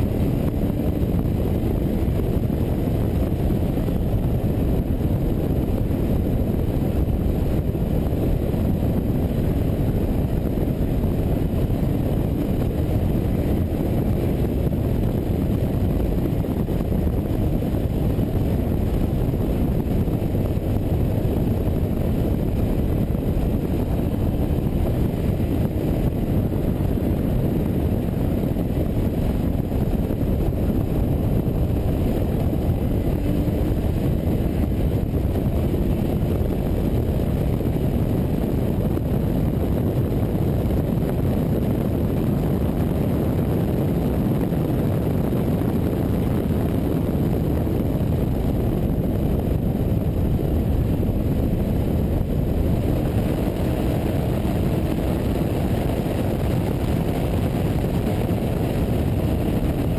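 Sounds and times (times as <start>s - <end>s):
car driving wind and road rumble: 0.0s - 59.9s.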